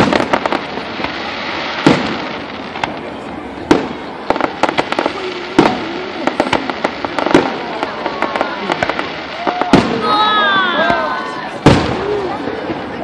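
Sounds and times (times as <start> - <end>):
fireworks bursting with booms: 0.0 - 13.0.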